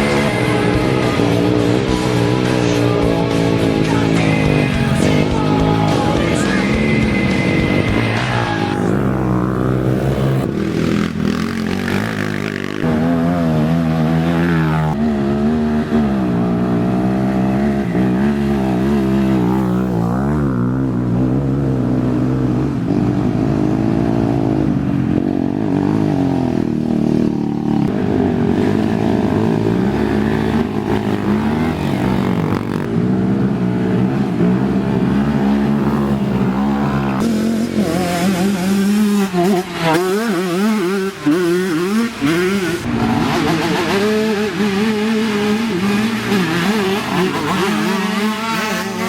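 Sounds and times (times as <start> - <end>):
atv engines revving: 0.0 - 49.0.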